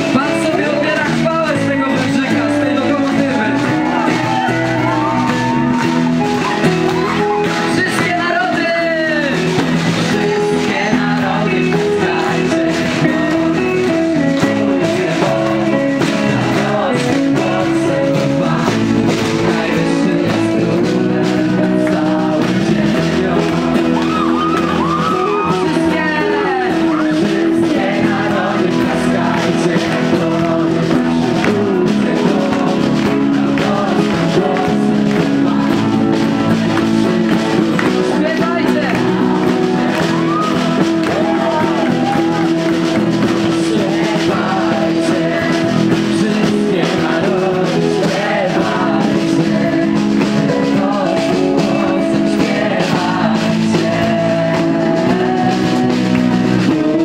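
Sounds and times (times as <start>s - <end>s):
worship song with singing: 0.0s - 57.0s.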